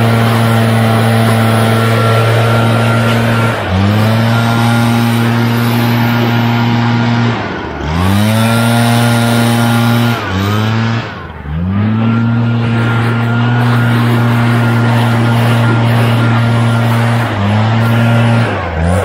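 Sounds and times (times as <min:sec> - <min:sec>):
leaf blower engine revving: 0:00.0 - 0:19.0.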